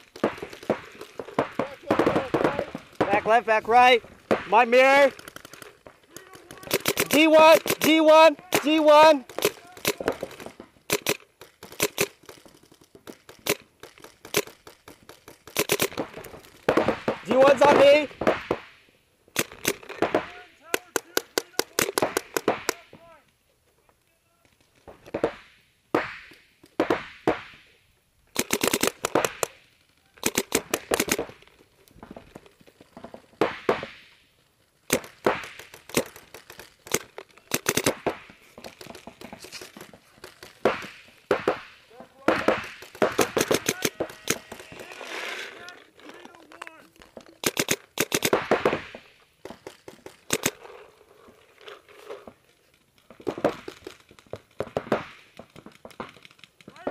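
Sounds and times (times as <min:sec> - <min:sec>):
paintball markers firing: 0:00.0 - 0:23.1, 0:24.4 - 0:50.9, 0:51.6 - 0:56.9.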